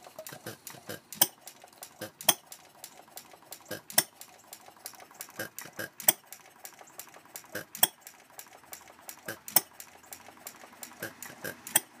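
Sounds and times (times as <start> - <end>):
engine popping: 0.0 - 12.0
valve gear clatter: 0.0 - 12.0.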